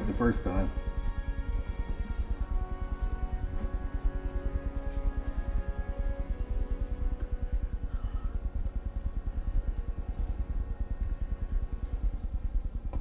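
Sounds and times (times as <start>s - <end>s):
low pulsing engine rumble: 0.0s - 13.0s.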